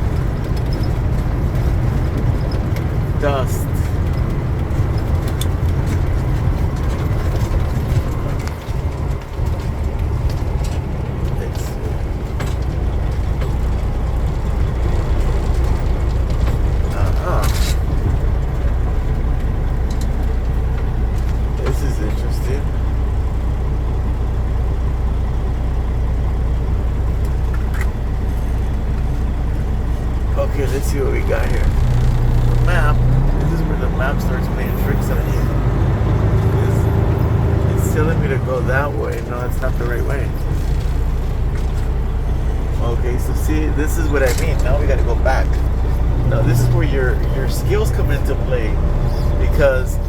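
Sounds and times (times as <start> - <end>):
light rattles and knocks: 0.0 - 50.0
truck engine and road rumble: 0.0 - 50.0.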